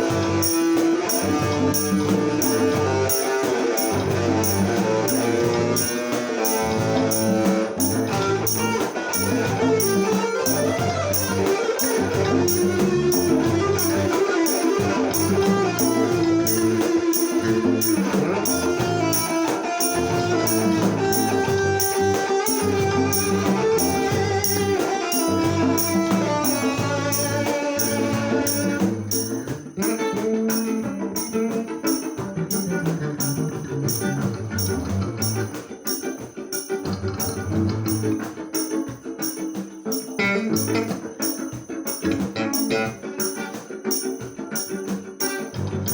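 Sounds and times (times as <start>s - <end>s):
plucked guitar: 0.0s - 45.9s
steady beat: 0.0s - 45.9s.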